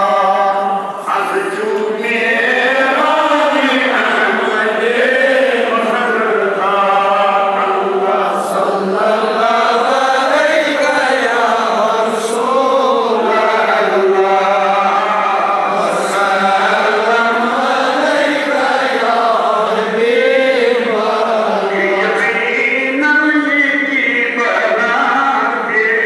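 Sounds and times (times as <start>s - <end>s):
men chanting melodically: 0.0s - 26.0s.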